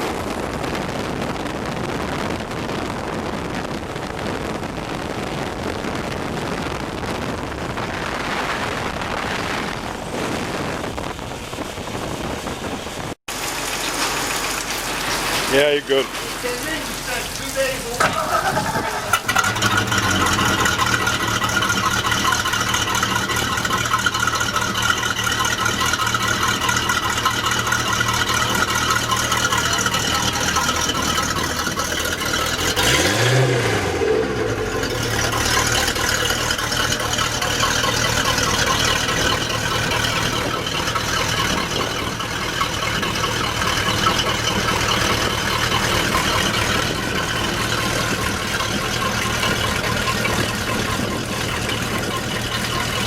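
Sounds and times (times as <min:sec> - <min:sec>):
boat engine running: 0:00.0 - 0:53.0
wind and water hiss: 0:00.0 - 0:53.0.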